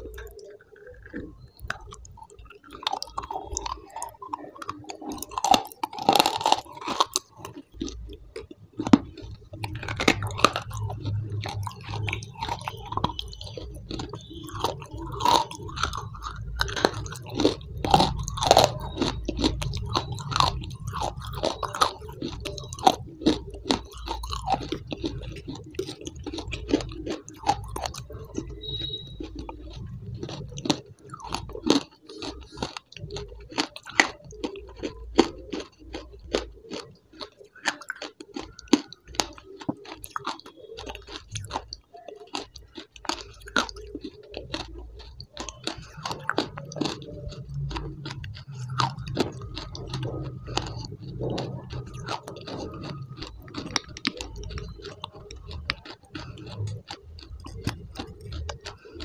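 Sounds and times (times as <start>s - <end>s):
wet chewing clicks and smacks: 0.0s - 59.0s.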